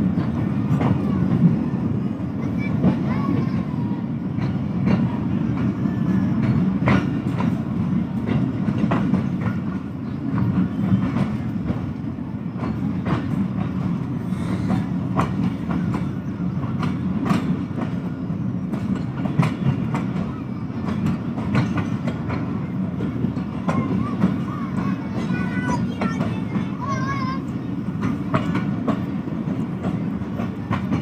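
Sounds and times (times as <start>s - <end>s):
train rumbling along track: 0.0s - 31.0s
wheels clicking over rail joints: 0.0s - 31.0s.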